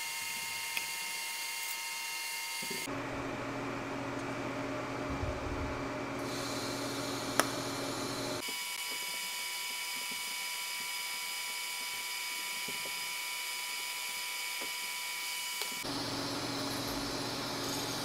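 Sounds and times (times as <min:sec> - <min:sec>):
welding arc whine and hiss: 0:00.0 - 0:02.9, 0:06.2 - 0:18.0.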